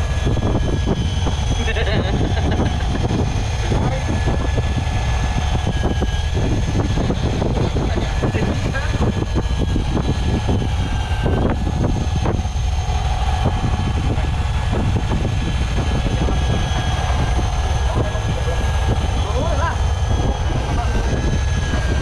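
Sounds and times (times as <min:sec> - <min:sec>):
motor boat engine running: 0:00.0 - 0:22.0.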